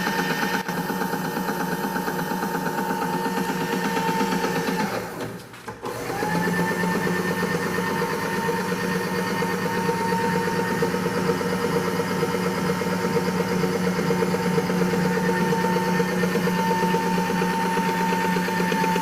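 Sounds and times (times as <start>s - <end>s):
milling machine spindle whine: 0.0s - 5.2s, 5.8s - 19.0s.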